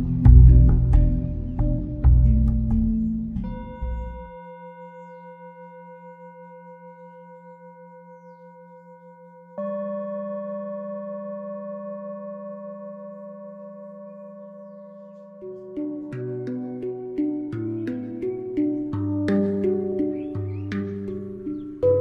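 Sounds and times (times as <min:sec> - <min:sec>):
ringing bell-like tones: 0:03.0 - 0:22.0.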